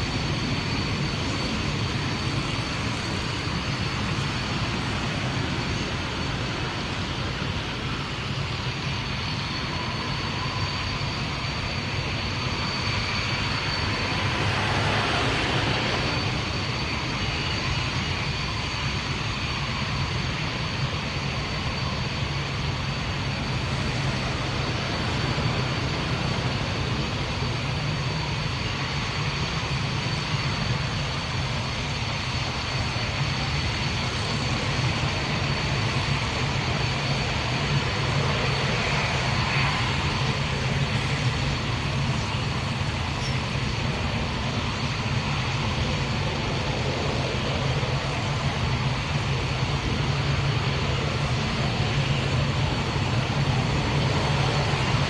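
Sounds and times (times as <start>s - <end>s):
distant jet aircraft roar: 0.0s - 55.0s
high-pitched whine: 0.0s - 55.0s.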